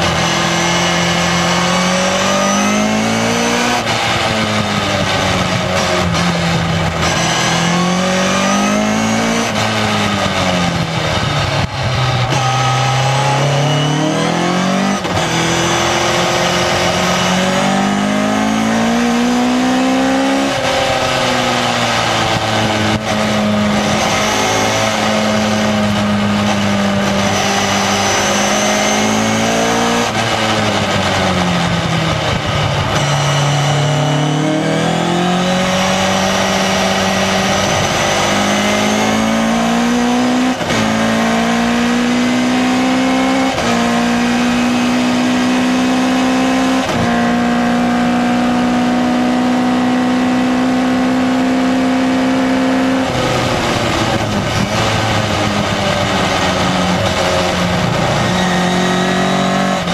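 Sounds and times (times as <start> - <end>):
sports car engine revving: 0.0 - 59.9.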